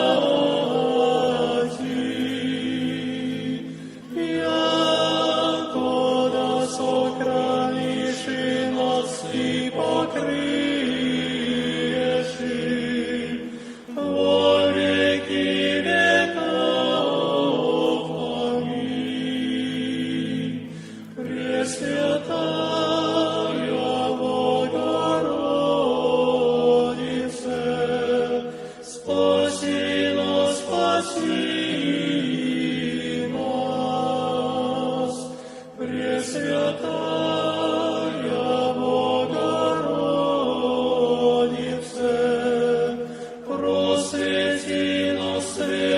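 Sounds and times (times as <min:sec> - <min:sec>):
choir singing a chant: 0:00.0 - 0:45.9.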